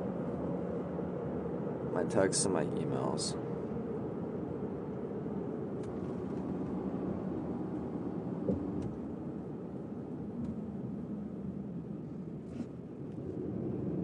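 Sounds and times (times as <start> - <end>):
car cabin road and engine noise: 0.0 - 14.0.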